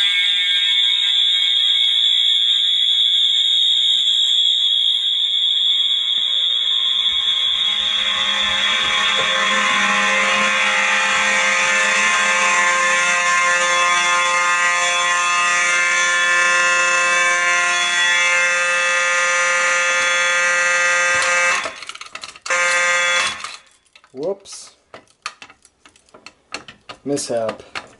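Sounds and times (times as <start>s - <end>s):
fire alarm continuous tone: 0.0s - 24.1s.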